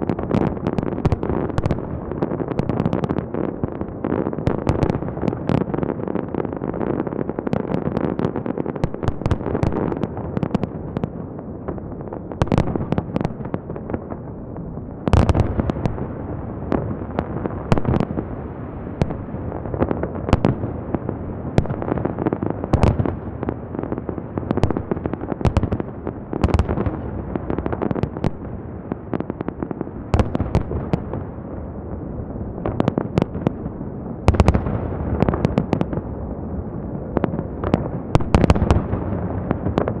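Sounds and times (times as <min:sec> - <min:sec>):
fireworks bangs and crackles: 0:00.0 - 0:40.0
rumble of fireworks bursts: 0:00.0 - 0:40.0.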